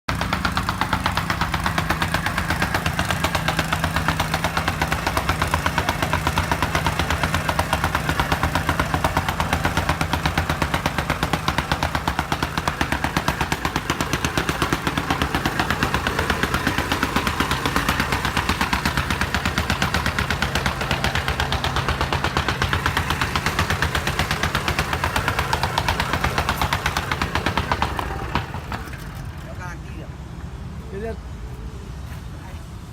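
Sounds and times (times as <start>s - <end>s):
tamping rammer pounding: 0.1s - 29.8s.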